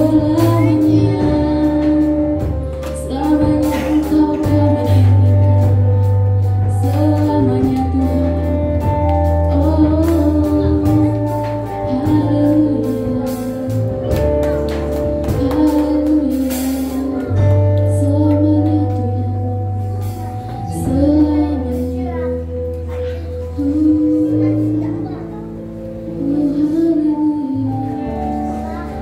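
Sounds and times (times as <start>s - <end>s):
woman singing: 0.0s - 22.6s, 23.5s - 25.2s, 26.1s - 28.8s
bass notes: 0.0s - 29.0s
guitar: 0.0s - 29.0s.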